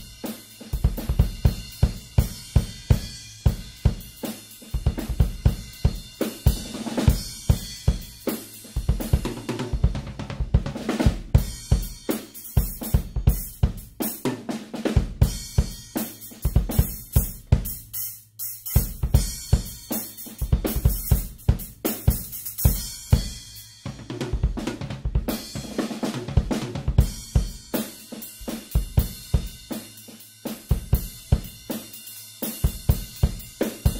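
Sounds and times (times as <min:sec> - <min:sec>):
muted drum kit groove: 0:00.0 - 0:33.9.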